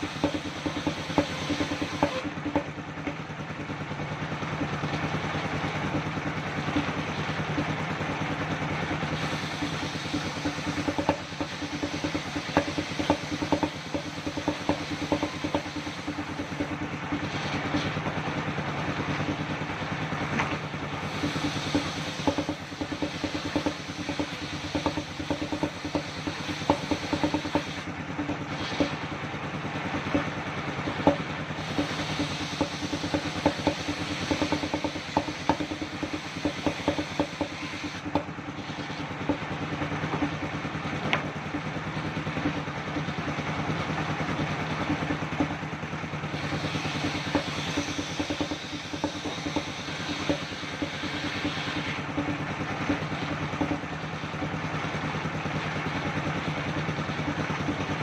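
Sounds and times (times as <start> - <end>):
knocks and clatter: 0.0 - 58.0
sawmill engine hum: 0.0 - 58.0.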